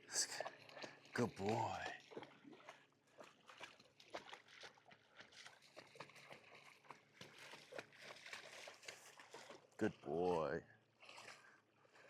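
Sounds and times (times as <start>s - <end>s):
lake water lapping: 0.0s - 12.0s
small drips and splashes: 0.0s - 12.0s.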